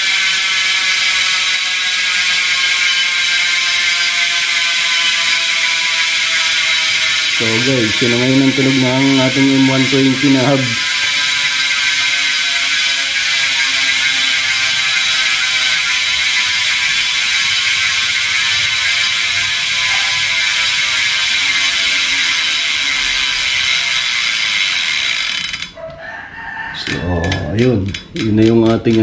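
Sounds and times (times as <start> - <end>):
bicycle hub ratcheting buzz: 0.0 - 25.8, 26.7 - 29.0.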